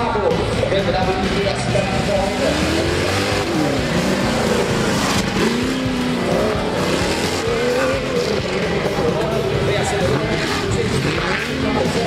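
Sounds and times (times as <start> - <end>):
off-road engines revving: 0.0 - 12.0.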